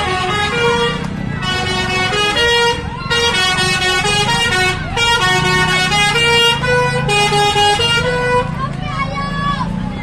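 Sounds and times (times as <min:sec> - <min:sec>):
multi-tone musical air horn: 0:00.0 - 0:08.5.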